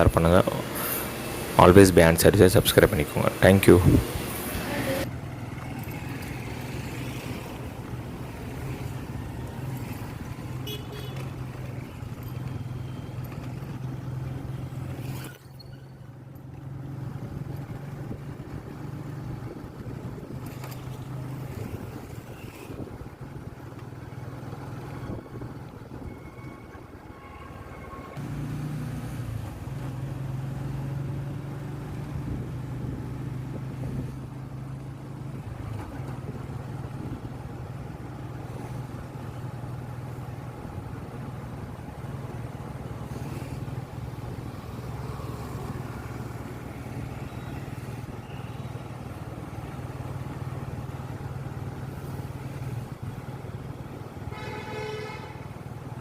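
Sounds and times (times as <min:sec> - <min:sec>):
vehicle engine hum: 0:00.0 - 0:27.4, 0:28.0 - 0:56.0
road and wind noise: 0:00.0 - 0:56.0.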